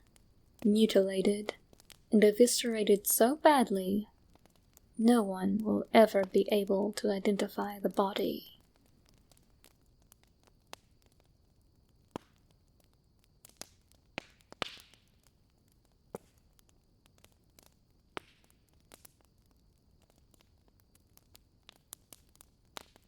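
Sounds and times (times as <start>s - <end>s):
low steady hiss: 0.0s - 22.7s
campfire crackling and popping: 0.0s - 23.0s.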